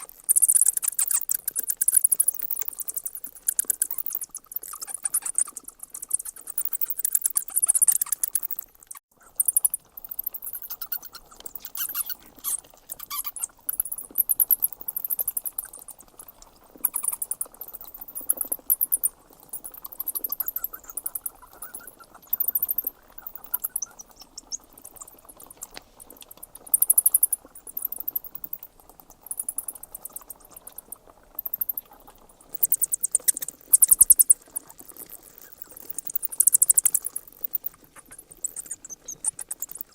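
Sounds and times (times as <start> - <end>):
bats squeaking: 0.0 - 39.9.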